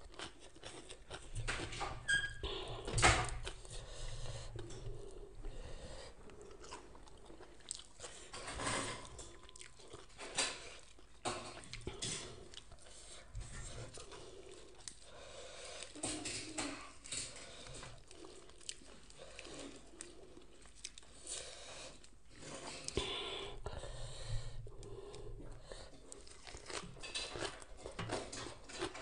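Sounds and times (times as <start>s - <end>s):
person chewing crunchy salad: 0.0s - 1.9s, 3.2s - 29.0s.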